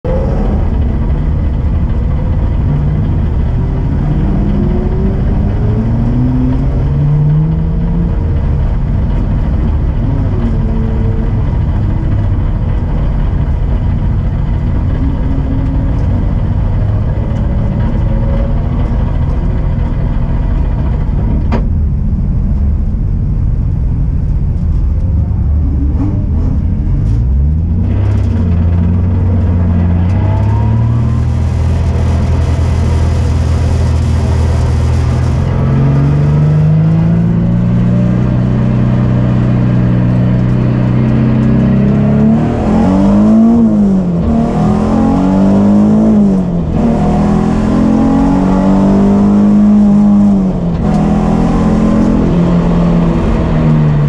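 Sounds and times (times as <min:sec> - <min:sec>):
engine revving: 0:00.0 - 0:21.1, 0:25.2 - 0:54.0
car engine idling: 0:00.0 - 0:47.4.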